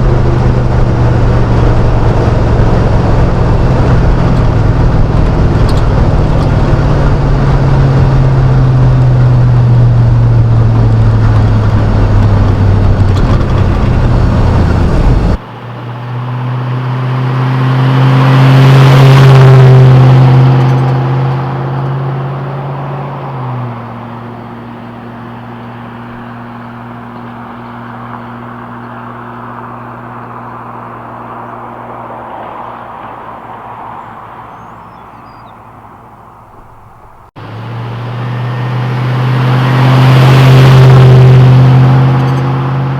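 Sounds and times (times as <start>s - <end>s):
truck exhaust drone: 0.0s - 42.9s.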